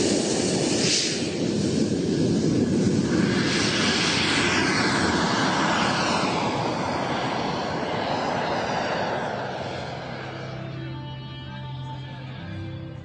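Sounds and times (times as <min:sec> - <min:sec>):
model jet engine whine: 0:00.0 - 0:13.0.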